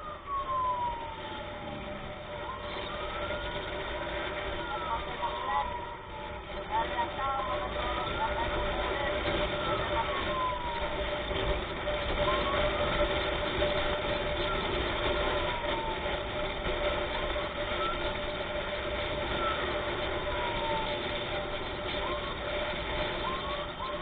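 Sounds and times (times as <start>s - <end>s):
ambulance siren wailing: 0.0s - 24.0s
road noise of vehicles: 0.0s - 24.0s.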